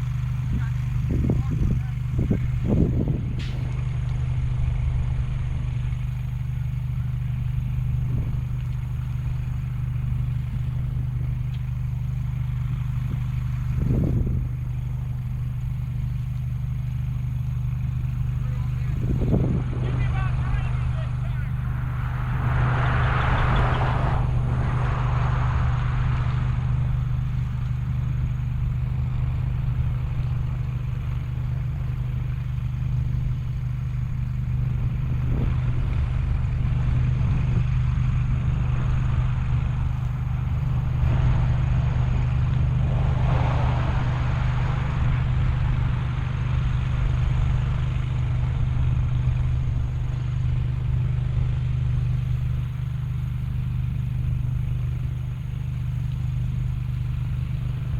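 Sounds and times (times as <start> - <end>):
vehicle engine humming: 0.0 - 57.9.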